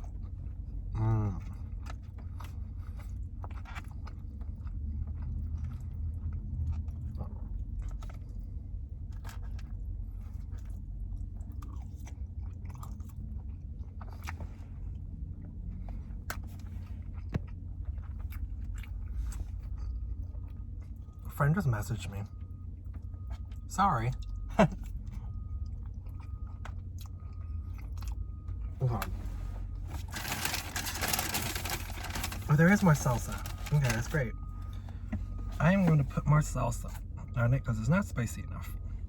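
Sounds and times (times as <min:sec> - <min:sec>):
close-miked chewing and crunching: 0:00.0 - 0:39.0
steady low hum: 0:00.0 - 0:39.0.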